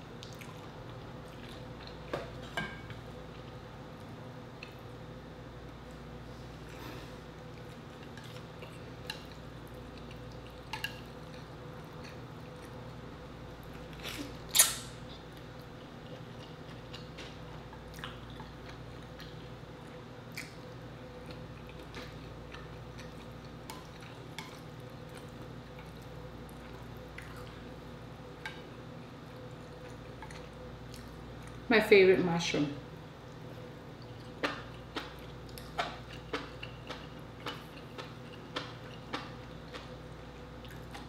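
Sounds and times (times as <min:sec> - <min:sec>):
wet chewing and mouth sounds: 0:00.2 - 0:02.5, 0:06.6 - 0:13.0, 0:13.6 - 0:27.8, 0:28.4 - 0:31.6, 0:33.3 - 0:41.0.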